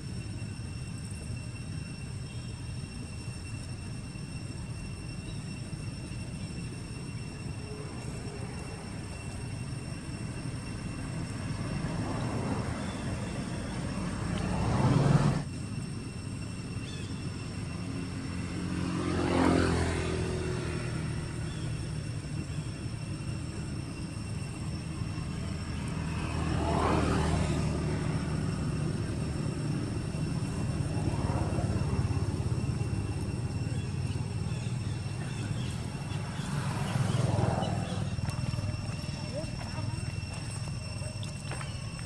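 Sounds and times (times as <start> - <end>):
passing motor traffic: 7.4 - 42.0.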